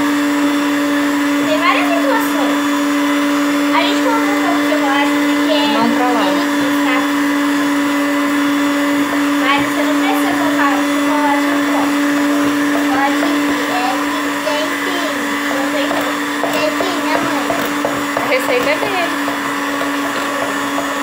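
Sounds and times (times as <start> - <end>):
electric hand mixer whipping: 0.0 - 21.0.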